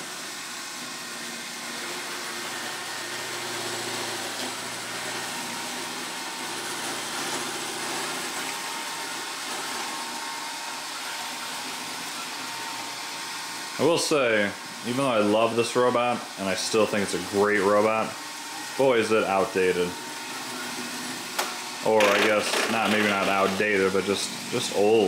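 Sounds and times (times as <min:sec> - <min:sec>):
robot vacuum whirring: 0:00.0 - 0:14.1, 0:14.7 - 0:25.0.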